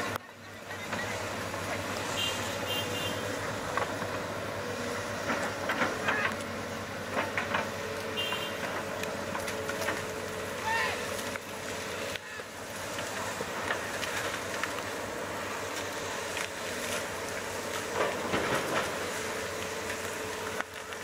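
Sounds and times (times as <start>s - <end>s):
bulldozer diesel engine humming: 0.0s - 21.0s.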